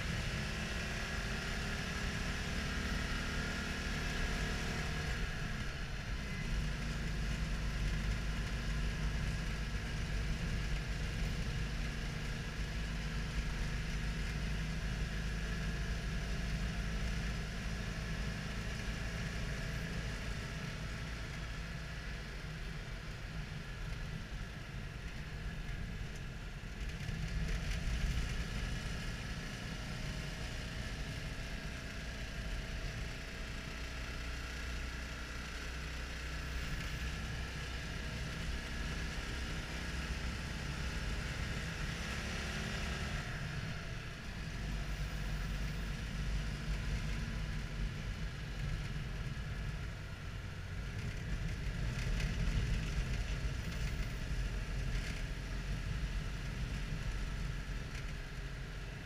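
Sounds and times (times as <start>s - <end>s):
road noise: 0.0s - 59.0s
small car engine running: 0.0s - 59.0s.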